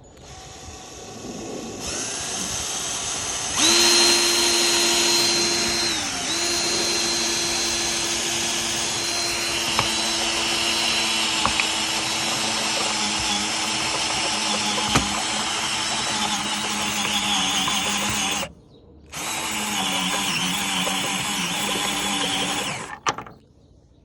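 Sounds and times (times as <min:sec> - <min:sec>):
electric drill whining: 0:00.0 - 0:18.5, 0:19.1 - 0:23.4
sharp clicks: 0:03.6 - 0:18.5, 0:19.1 - 0:23.4.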